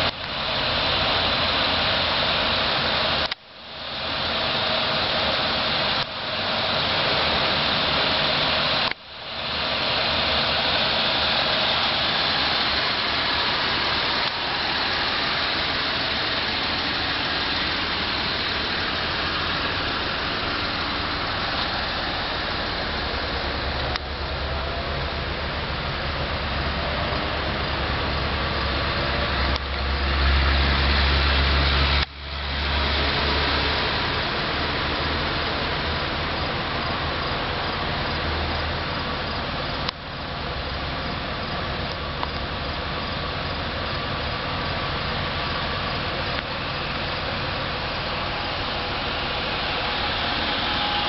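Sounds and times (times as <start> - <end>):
steady loud hiss: 0.0 - 51.0.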